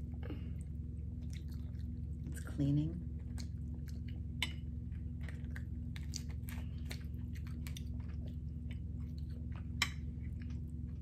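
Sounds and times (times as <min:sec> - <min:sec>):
steady low hum: 0:00.0 - 0:11.0
wet chewing: 0:00.0 - 0:11.0.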